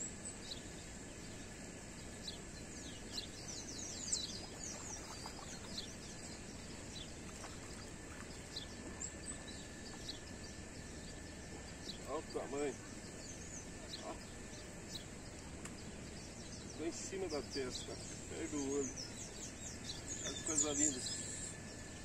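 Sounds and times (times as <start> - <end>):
small birds chirping: 0.0 - 22.0
steady outdoor hiss: 0.0 - 22.0.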